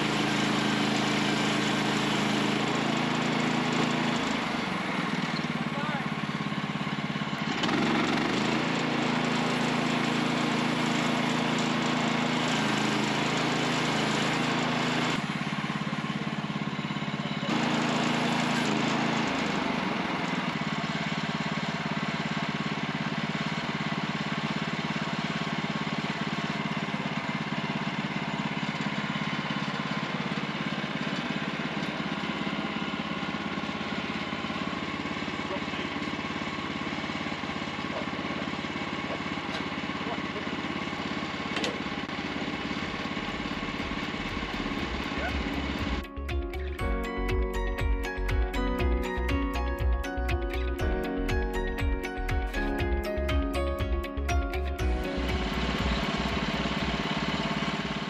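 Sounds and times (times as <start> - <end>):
sawmill engine cutting log: 0.0 - 46.0, 54.8 - 58.0.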